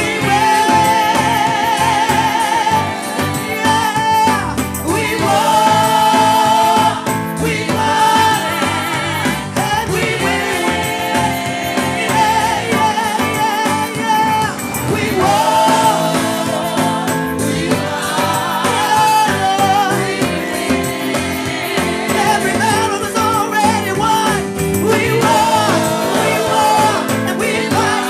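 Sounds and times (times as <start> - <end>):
band playing: 0.0 - 28.0
gospel singers: 0.0 - 28.0.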